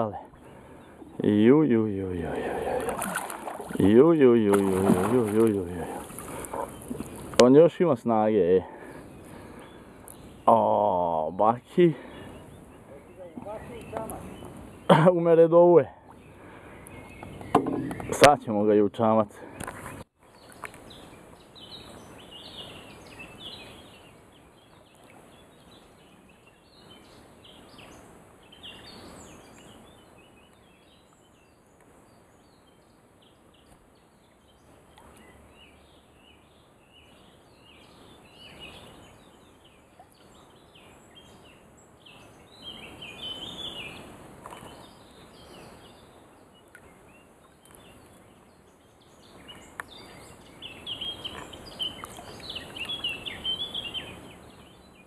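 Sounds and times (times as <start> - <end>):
birds chirping: 0.0 - 55.0
faint steady outdoor hiss: 0.0 - 55.0.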